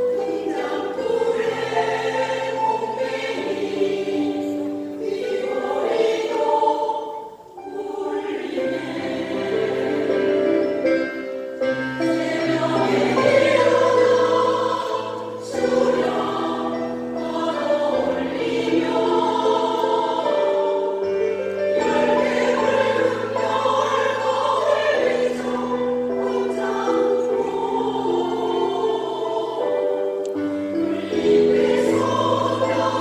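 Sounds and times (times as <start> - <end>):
choir singing in parts: 0.0 - 33.0.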